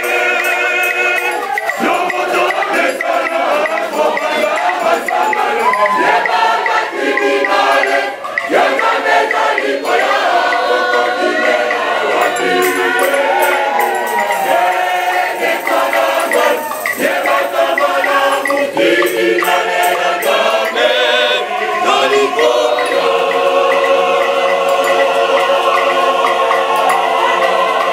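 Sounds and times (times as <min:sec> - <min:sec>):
choir singing in harmony: 0:00.0 - 0:27.9
hand percussion beat: 0:00.0 - 0:27.9.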